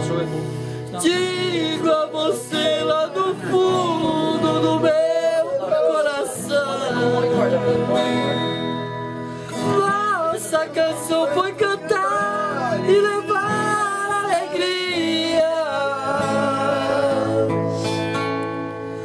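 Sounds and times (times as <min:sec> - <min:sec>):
man singing a slow song: 0:00.0 - 0:08.7, 0:09.5 - 0:18.7
strummed acoustic guitars: 0:00.0 - 0:19.0.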